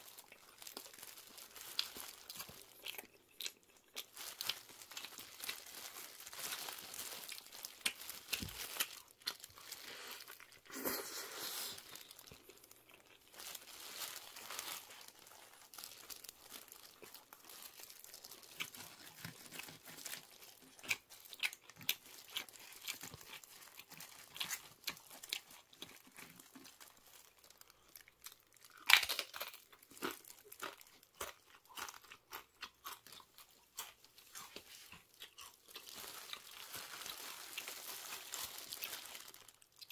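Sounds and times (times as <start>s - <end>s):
crinkling: 0.0s - 39.9s
crunching tortilla chips: 0.0s - 39.9s.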